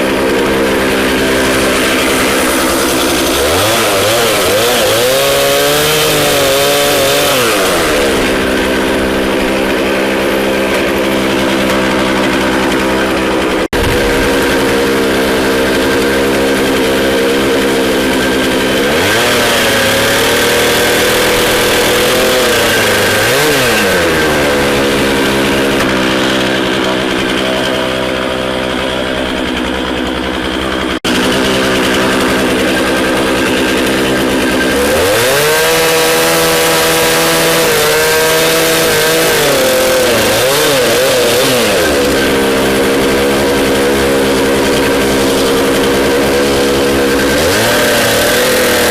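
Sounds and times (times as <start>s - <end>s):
chainsaw cutting logs: 0.0s - 48.9s.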